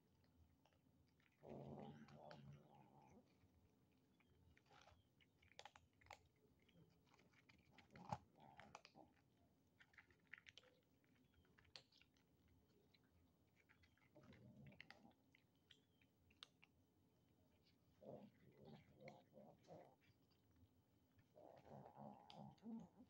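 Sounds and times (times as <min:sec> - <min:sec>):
kittens crunching dry cat food: 0:00.0 - 0:23.0.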